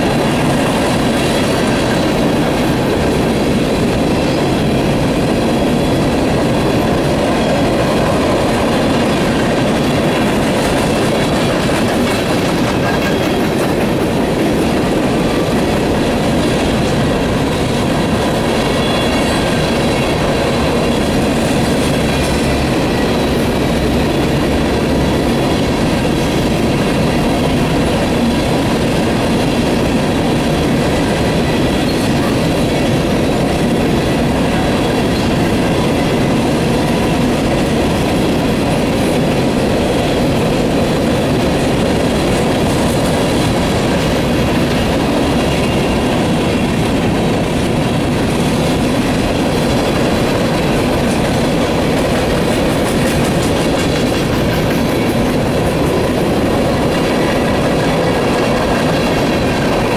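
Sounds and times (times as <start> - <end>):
train wheels rumbling on rail: 0.0 - 59.9
wheels clattering over rail joints: 0.0 - 59.9.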